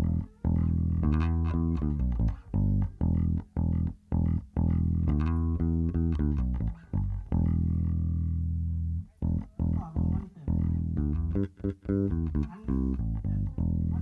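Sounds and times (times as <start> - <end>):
electric bass guitar notes: 0.0 - 14.0.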